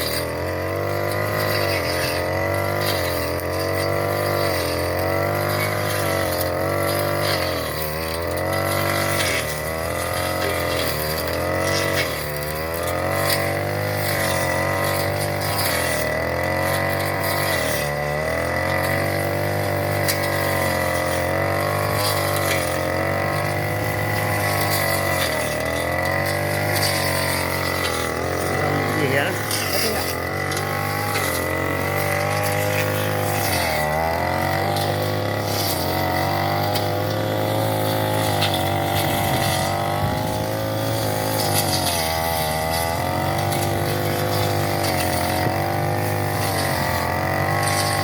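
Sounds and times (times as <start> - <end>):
grass cutter engine running: 0.0 - 48.0.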